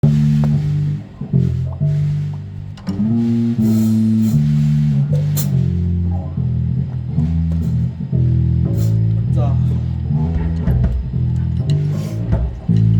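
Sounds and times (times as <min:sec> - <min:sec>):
bass guitar low notes: 0:00.0 - 0:12.9
electric guitar: 0:00.0 - 0:12.9.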